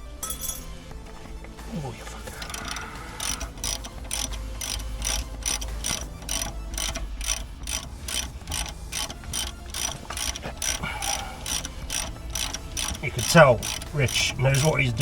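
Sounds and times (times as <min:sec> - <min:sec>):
socket ratchet clicking: 0:02.2 - 0:15.0.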